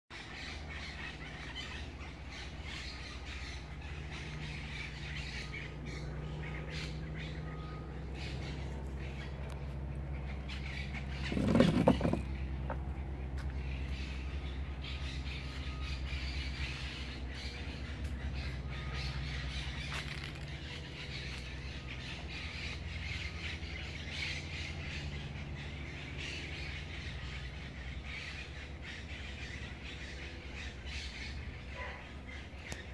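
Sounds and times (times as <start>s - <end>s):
birds calling: 0.1s - 32.9s
steady low hum: 0.2s - 32.9s.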